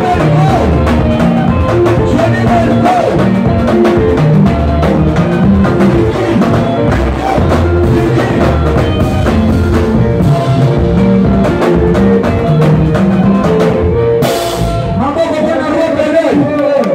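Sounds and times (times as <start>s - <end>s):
drum kit beat: 0.0s - 16.1s
guitars: 0.0s - 16.9s
rumba band playing dance music: 0.0s - 16.9s.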